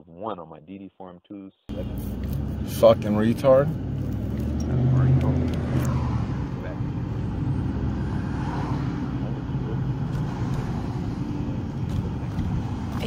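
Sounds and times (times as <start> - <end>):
car road and engine rumble: 1.7 - 13.0.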